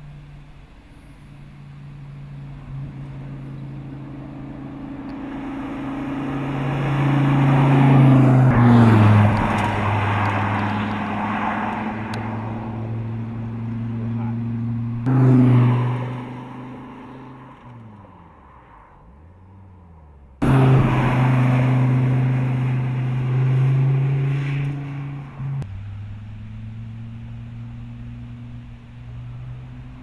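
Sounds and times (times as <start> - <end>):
sports car engine passing: 0.0 - 30.0.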